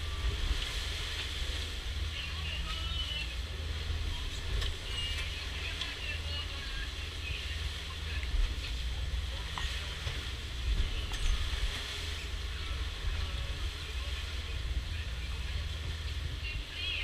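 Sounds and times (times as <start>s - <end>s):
rushing wake and waves: 0.0s - 17.0s.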